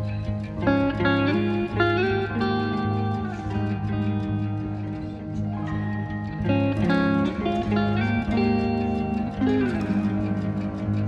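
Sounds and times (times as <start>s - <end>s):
plucked guitar with bass line: 0.0s - 11.0s.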